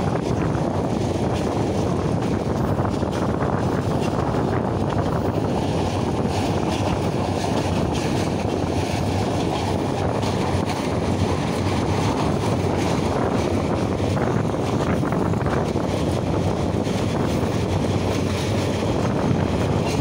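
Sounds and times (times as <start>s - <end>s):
train wheels rumbling on rails: 0.0s - 20.0s
wind rushing past microphone: 0.0s - 20.0s.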